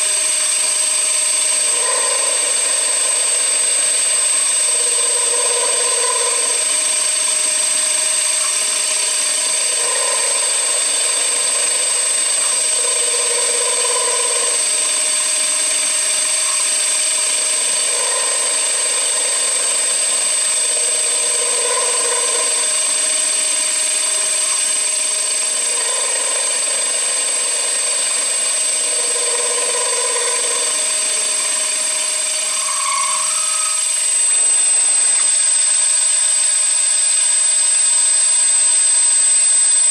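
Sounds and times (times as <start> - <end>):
low motor tone: 0.0 - 39.9
machine high whine: 0.0 - 39.9.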